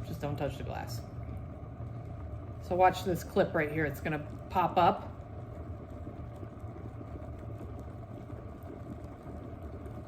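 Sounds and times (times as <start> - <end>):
electric kettle boiling: 0.0 - 10.0.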